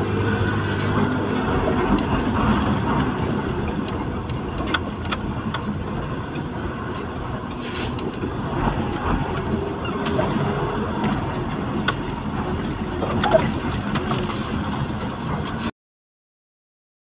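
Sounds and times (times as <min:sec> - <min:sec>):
clicks and rattles: 0:00.0 - 0:08.2, 0:09.2 - 0:15.7
truck engine running: 0:00.0 - 0:15.7.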